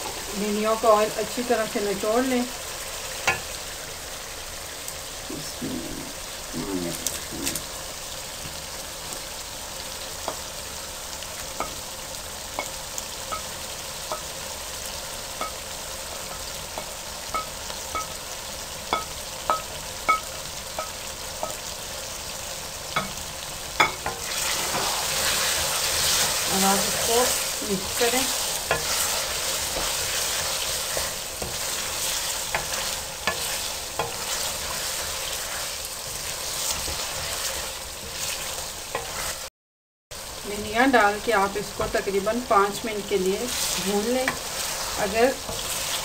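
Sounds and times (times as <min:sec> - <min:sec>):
food sizzling in a metal pan: 0:00.0 - 0:39.5, 0:40.1 - 0:46.0.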